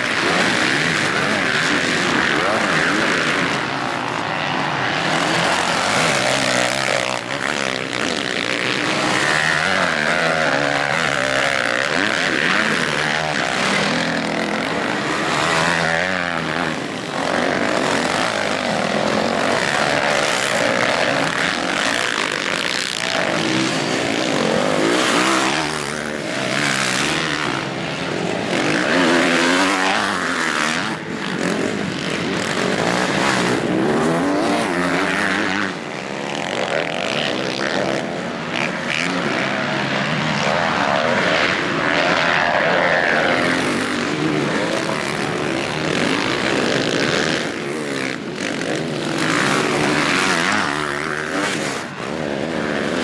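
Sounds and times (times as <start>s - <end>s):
motorcycle engines revving: 0.0s - 53.0s.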